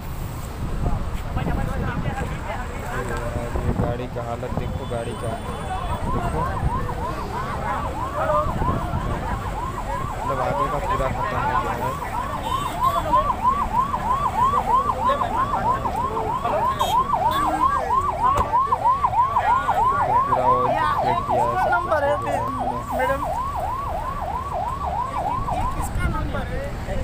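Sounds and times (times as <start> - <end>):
emergency siren wailing: 2.2 - 27.0.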